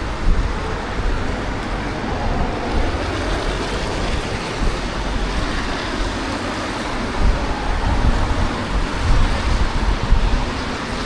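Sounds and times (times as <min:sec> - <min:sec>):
road traffic: 0:00.0 - 0:11.0
wind on microphone: 0:00.0 - 0:11.0.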